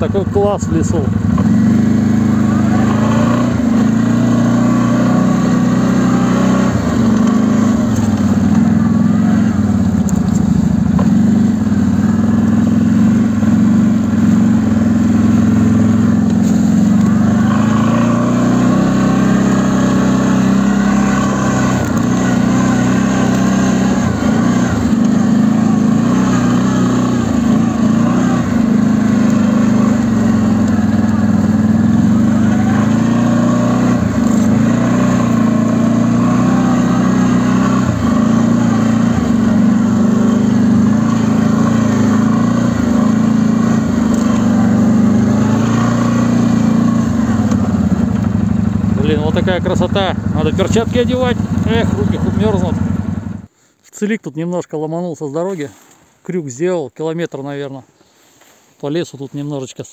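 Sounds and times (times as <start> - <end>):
quad bike engine running: 0.0 - 53.5.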